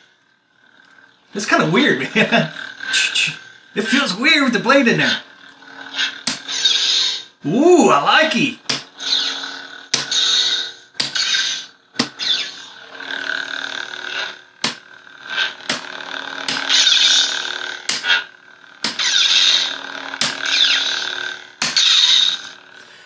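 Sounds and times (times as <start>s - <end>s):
lightsaber hum: 0.0s - 23.0s.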